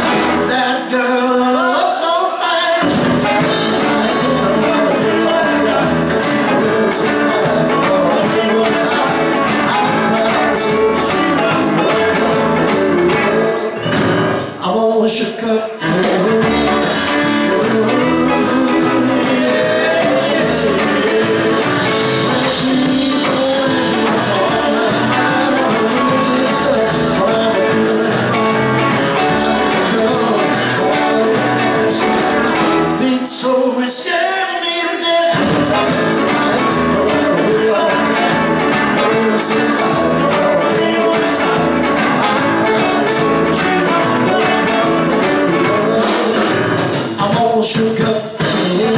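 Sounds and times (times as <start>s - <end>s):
man singing: 0.0s - 48.9s
rock and roll band playing: 0.0s - 48.9s.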